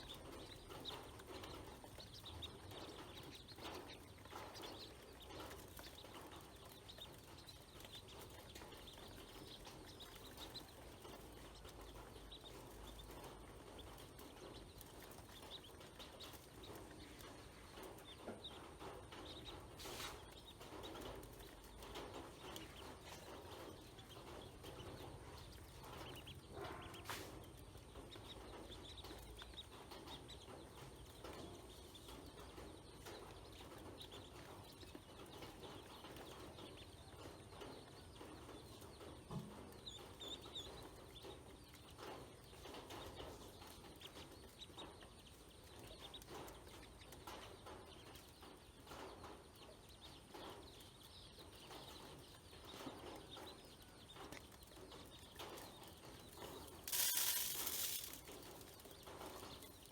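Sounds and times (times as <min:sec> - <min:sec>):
small irregular clicks and taps: 0:00.0 - 0:59.9.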